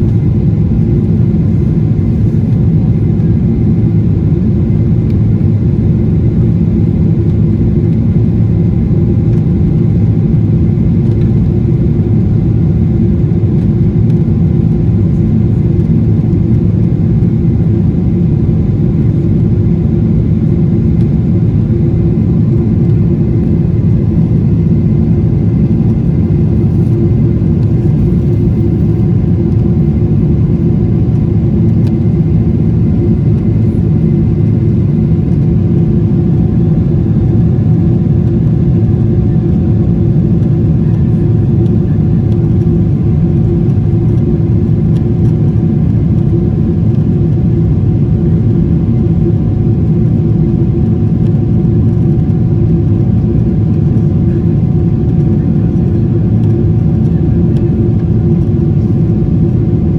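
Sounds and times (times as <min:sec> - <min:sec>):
airliner engine rumble in cabin: 0:00.0 - 0:59.9.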